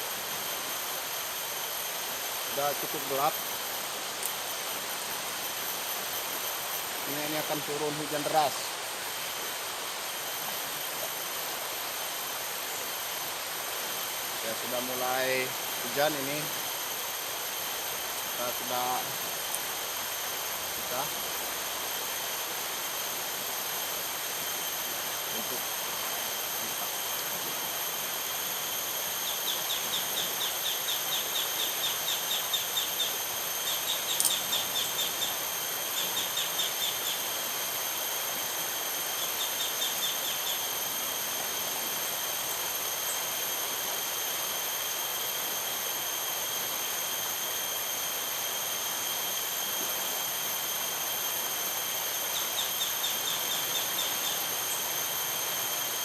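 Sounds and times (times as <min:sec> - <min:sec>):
insect chirping pulses: 0:00.0 - 0:56.0
insects droning: 0:00.0 - 0:56.0
steady hiss: 0:00.0 - 0:56.0.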